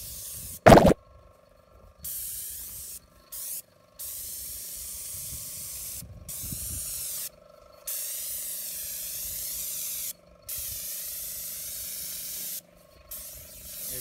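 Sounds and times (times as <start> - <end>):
paint spray gun hissing: 0.0 - 1.0, 2.0 - 7.3, 7.9 - 14.0.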